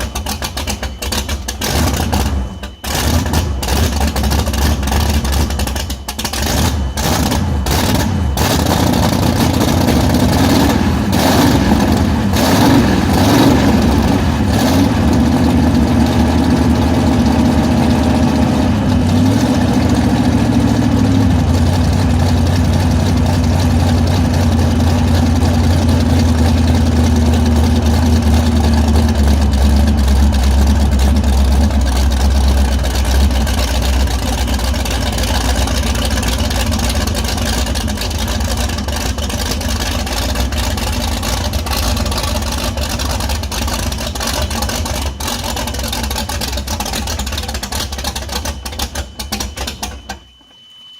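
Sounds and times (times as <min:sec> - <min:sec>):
boat engine running: 0:00.0 - 0:49.9
engine knocks and pops: 0:00.0 - 0:50.6.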